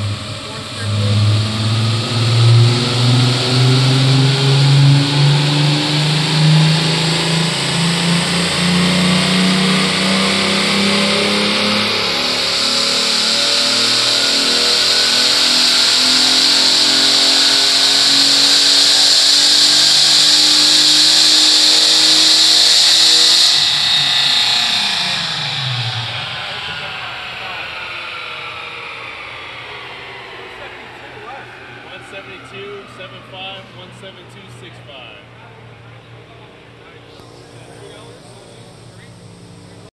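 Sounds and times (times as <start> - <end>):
engine revving at full throttle: 0.0 - 39.9.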